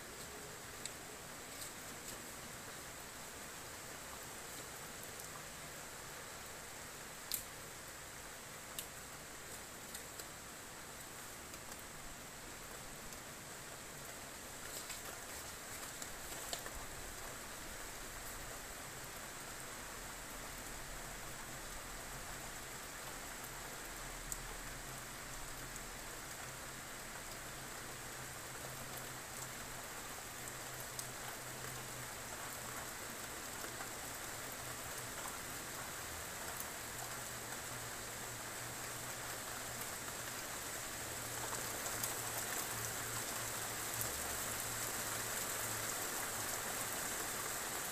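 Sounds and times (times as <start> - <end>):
rain on a flat roof: 0.0 - 47.9.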